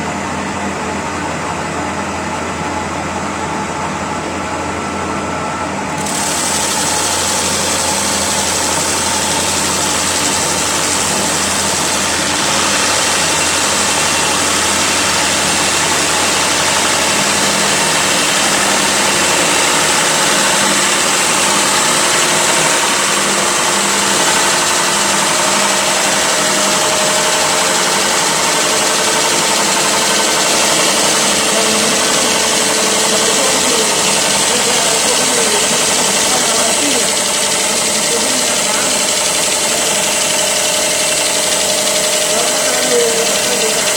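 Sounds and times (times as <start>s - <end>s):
wood lathe running: 5.9s - 43.9s
hiss of wood cutting: 6.0s - 43.9s.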